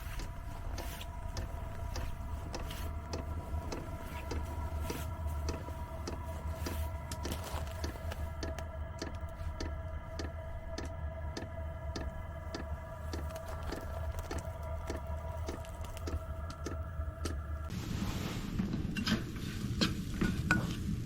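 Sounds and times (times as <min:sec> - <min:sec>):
fuel pump ticking: 0:00.0 - 0:17.4.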